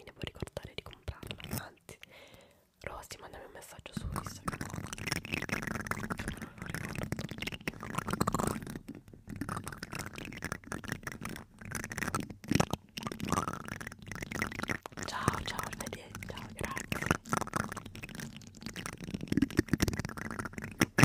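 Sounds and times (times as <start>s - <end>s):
plastic spoons scraping microphone grille: 3.9s - 21.0s.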